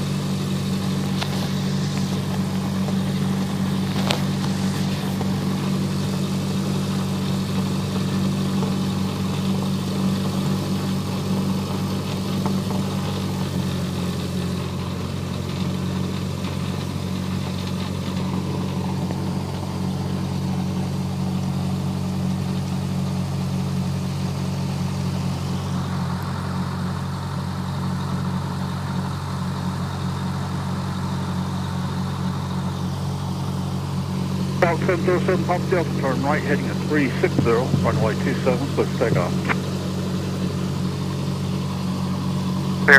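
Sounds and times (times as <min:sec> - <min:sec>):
propeller engine idling: 0:00.0 - 0:42.9.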